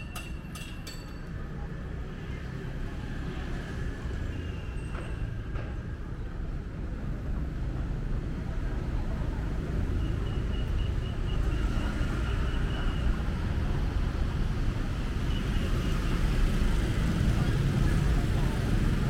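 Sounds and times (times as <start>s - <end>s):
passing traffic rumble: 0.0s - 19.0s.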